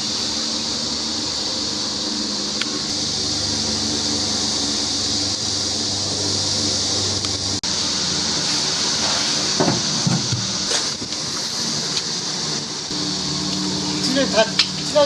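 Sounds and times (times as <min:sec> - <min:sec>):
fan humming and hissing: 0:00.0 - 0:15.0.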